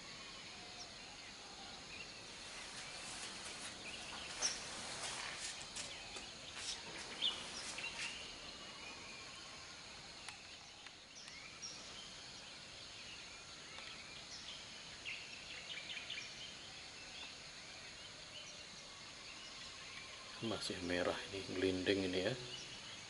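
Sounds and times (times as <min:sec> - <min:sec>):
bird chirps: 0:00.0 - 0:23.0
high insect drone: 0:00.0 - 0:23.0.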